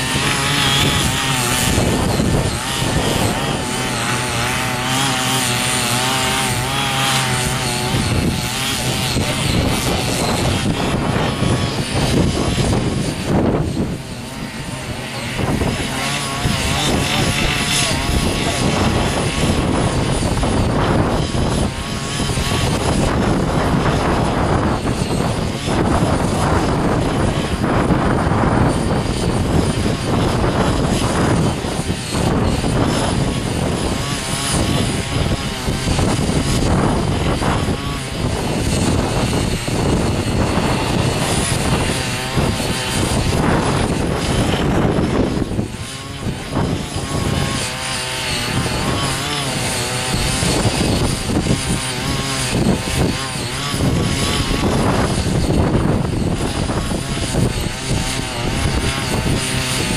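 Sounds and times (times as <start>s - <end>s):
cultivator engine running: 0.0s - 59.9s.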